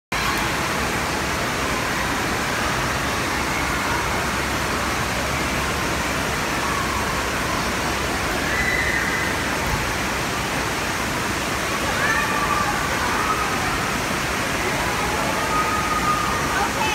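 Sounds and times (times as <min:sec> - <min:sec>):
rushing water: 0:00.1 - 0:16.9
distant children's voices echoing: 0:00.4 - 0:10.1, 0:11.4 - 0:16.9.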